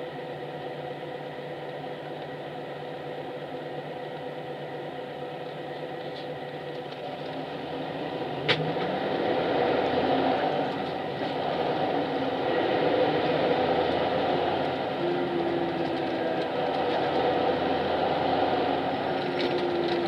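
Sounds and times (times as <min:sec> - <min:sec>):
bus diesel engine: 0:00.0 - 0:20.0.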